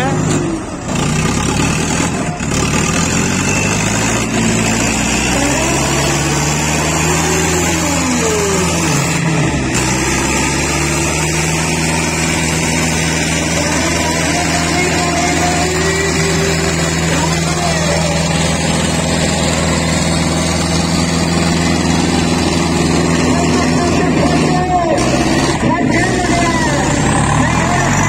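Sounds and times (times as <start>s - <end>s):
diesel tractor engines straining: 0.0s - 28.0s.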